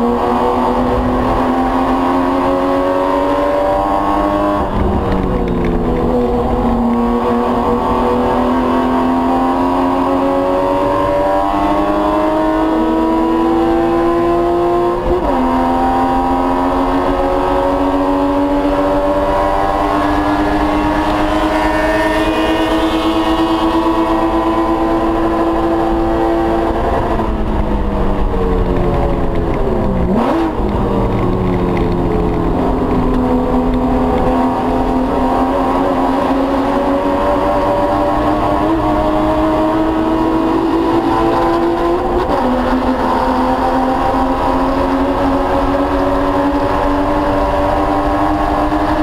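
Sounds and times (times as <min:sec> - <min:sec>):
race car engine at full throttle: 0:00.0 - 0:49.0.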